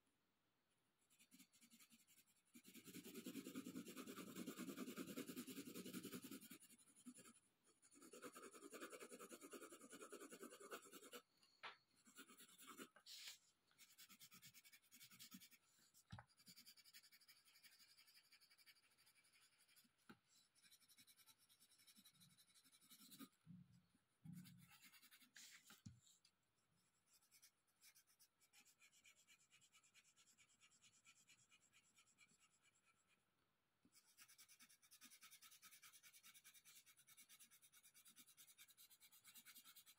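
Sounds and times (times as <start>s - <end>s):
colored pencil scratching on paper: 1.0s - 11.3s, 12.0s - 23.4s, 24.3s - 26.2s, 27.0s - 33.2s, 33.9s - 39.9s.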